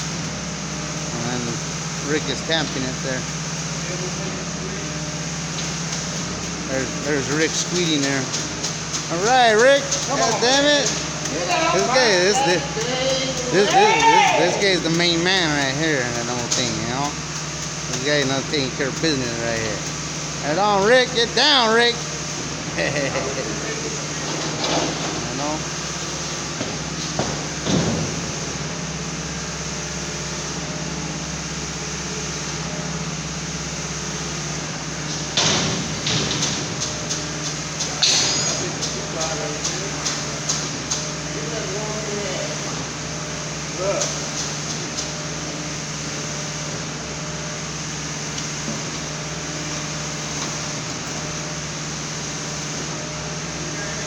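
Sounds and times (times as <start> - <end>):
concrete pump pulsing drone: 0.0 - 54.0.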